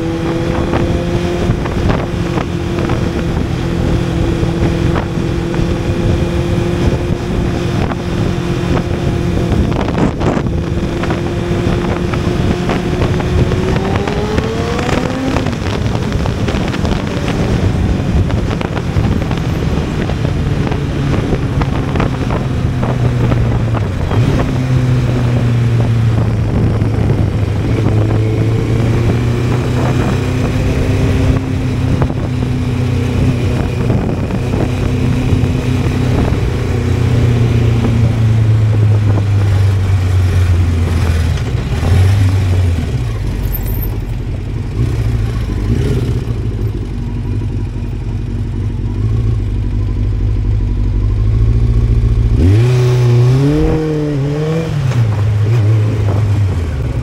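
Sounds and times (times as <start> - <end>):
motorcycle engine running: 0.0 - 54.3.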